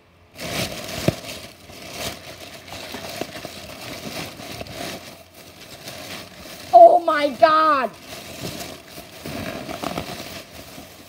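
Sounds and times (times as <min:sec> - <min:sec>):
plastic bag rustling: 0:00.3 - 0:11.0.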